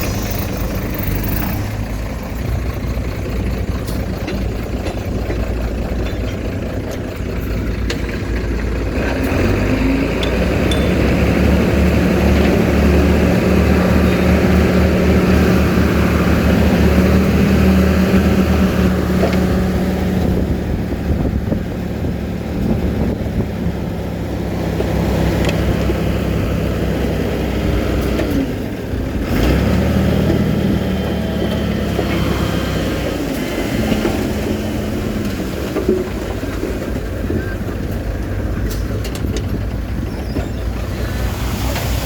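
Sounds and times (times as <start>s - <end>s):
heavy diesel engine under load: 0.0s - 42.0s.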